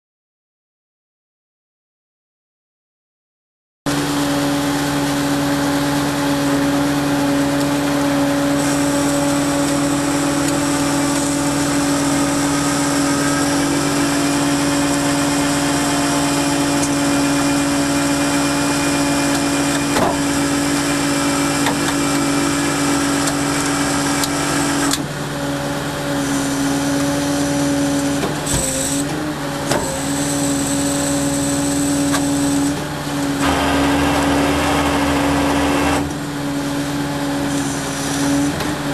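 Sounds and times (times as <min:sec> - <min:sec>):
truck engine droning: 0:04.0 - 0:38.9.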